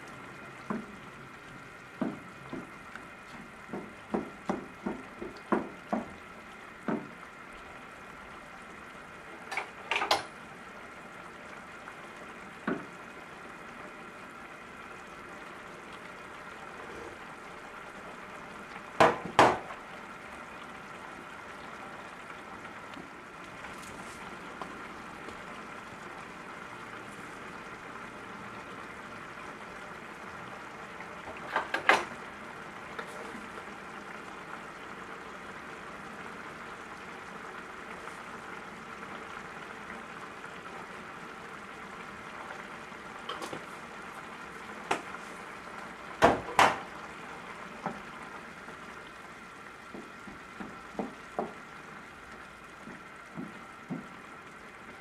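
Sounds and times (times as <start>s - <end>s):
soup simmering in a pan: 0.0s - 55.0s.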